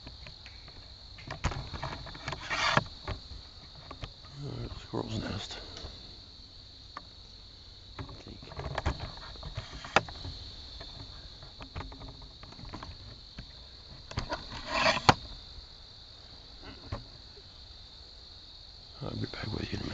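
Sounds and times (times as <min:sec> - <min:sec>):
insects droning: 0:00.0 - 0:19.9.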